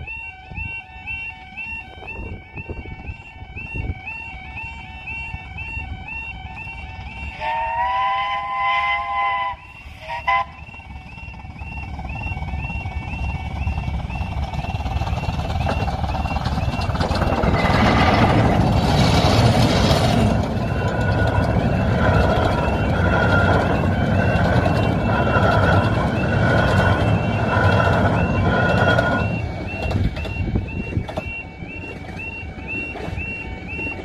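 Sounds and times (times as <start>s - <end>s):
level crossing alarm warbling: 0.0s - 34.0s
steam locomotive rushing past: 0.0s - 34.0s
train coaches rumbling past: 0.0s - 34.0s.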